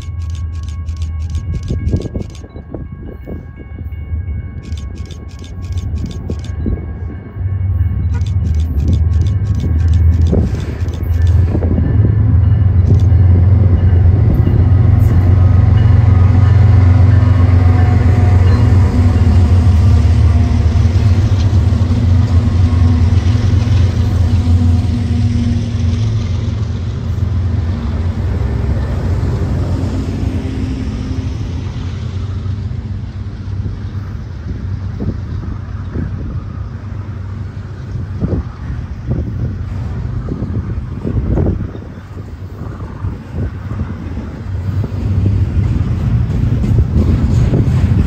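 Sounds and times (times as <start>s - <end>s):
diesel locomotive rumble: 0.0s - 48.0s.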